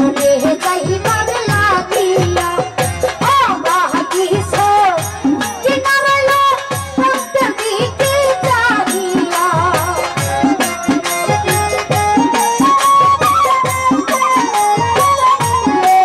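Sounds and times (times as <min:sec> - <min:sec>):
rattling percussion: 0:00.0 - 0:16.0
steady drum beat: 0:00.0 - 0:16.0.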